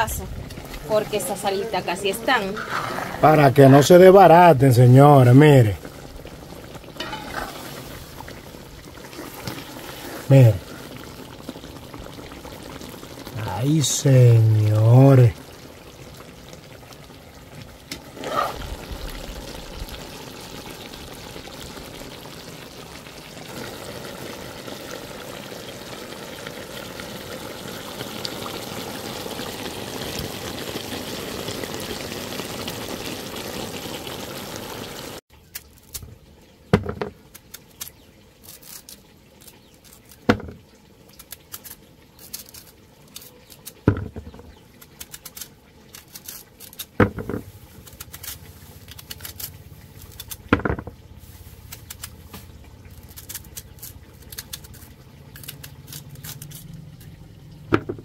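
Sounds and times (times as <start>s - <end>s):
chicken wings sizzling in a pan: 0.0s - 35.2s, 37.0s - 58.0s.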